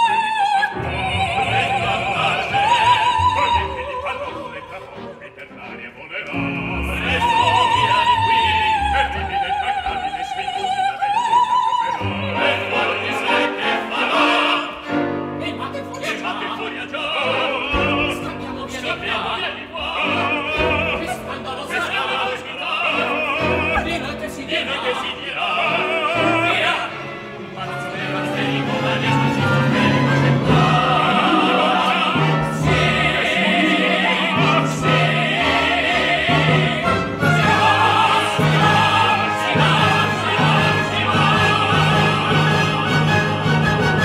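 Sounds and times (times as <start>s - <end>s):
orchestra playing: 0.0s - 44.0s
several voices singing: 0.0s - 44.0s.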